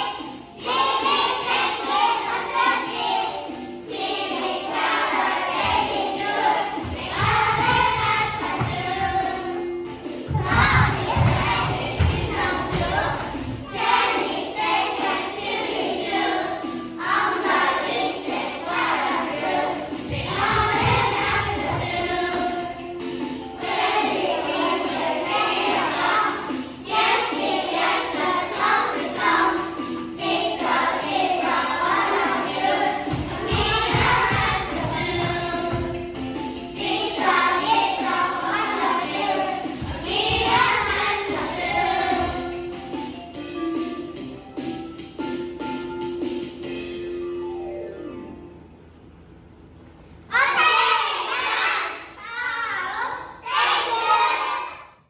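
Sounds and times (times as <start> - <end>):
young children singing: 0.0 - 43.2, 50.3 - 55.0
music: 0.0 - 55.0.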